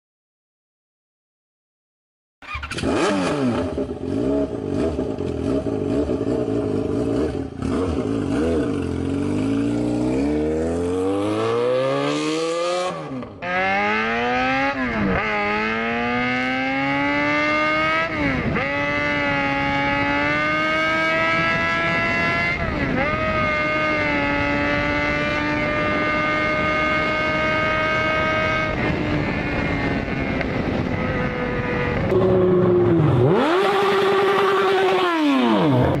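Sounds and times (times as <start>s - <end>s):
motorcycle engine accelerating: 2.4s - 36.0s.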